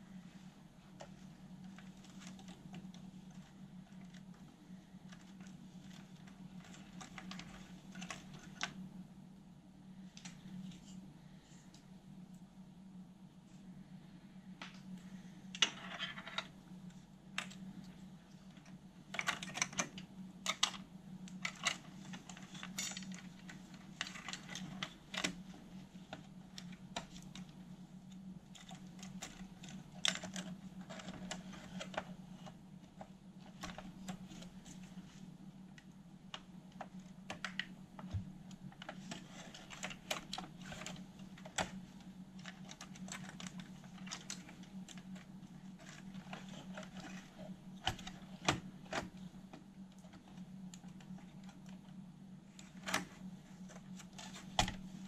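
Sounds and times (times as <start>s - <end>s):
steady low hum: 0.0s - 55.0s
plastic parts clicking and rustling: 0.9s - 8.8s, 15.5s - 55.0s.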